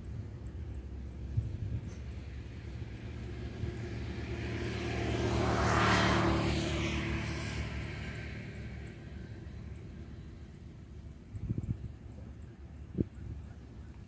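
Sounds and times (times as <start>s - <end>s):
vehicle passing by: 0.0s - 11.8s
low engine hum: 0.0s - 14.0s.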